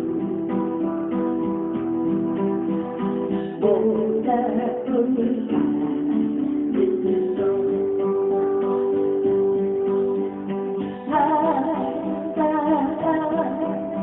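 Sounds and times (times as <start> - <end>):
acoustic guitar strumming: 0.0 - 14.0
person singing: 0.0 - 14.0.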